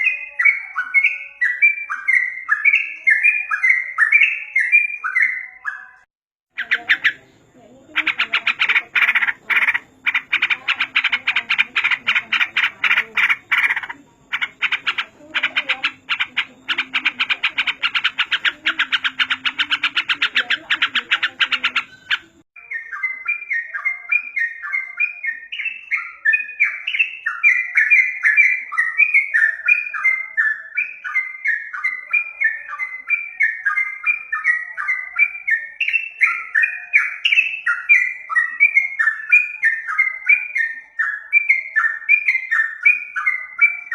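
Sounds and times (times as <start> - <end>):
bird chattering song: 0.0 - 43.9.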